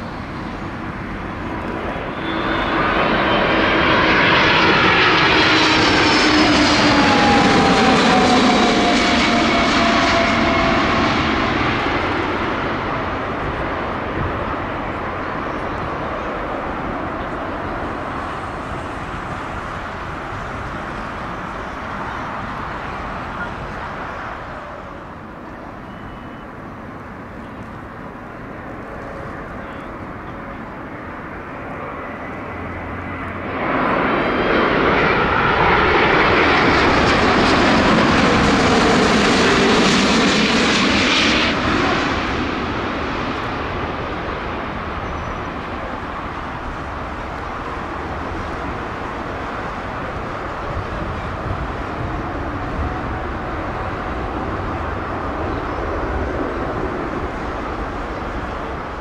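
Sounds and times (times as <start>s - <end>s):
distant jet rumble: 0.0s - 59.0s
jet airliner passing overhead: 0.0s - 59.0s.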